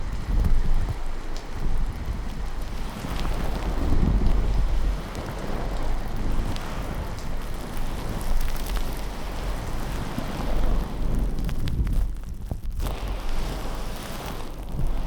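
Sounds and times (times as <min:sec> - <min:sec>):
low thunder rumble: 0:00.0 - 0:13.8
rain falling: 0:00.0 - 0:15.0.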